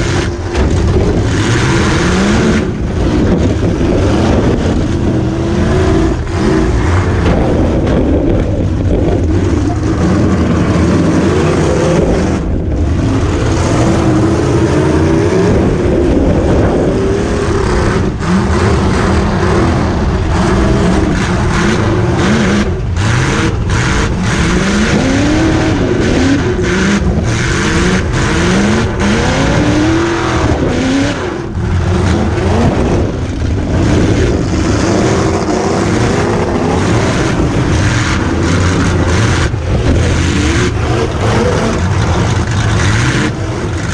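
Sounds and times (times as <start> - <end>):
car engine revving loudly: 0.0 - 43.9.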